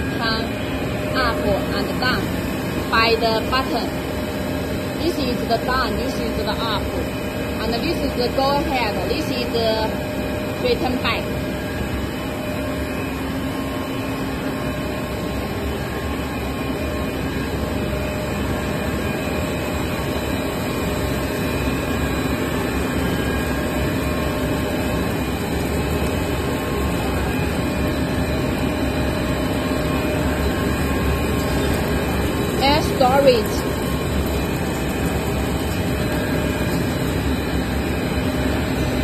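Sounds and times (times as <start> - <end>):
factory machinery running: 0.0 - 39.0
steady machine tones: 0.0 - 39.0.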